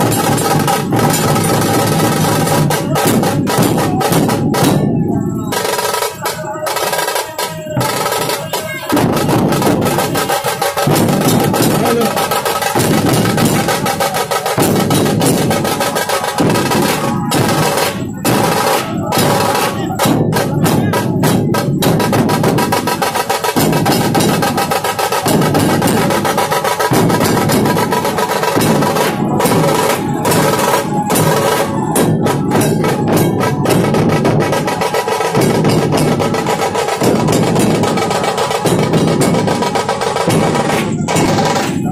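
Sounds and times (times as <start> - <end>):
drum ensemble playing fast rhythm: 0.0 - 41.9.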